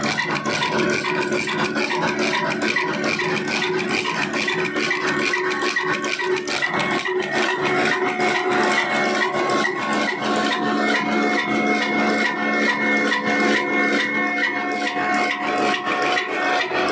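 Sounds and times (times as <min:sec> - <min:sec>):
constant high whine: 0:00.0 - 0:16.9
mill and belt drive clattering: 0:00.0 - 0:16.9.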